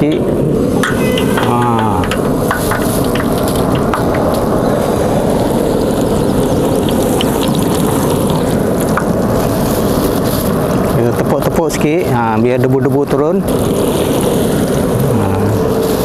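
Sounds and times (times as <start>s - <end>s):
chicken deep-frying in oil: 0.0s - 16.0s.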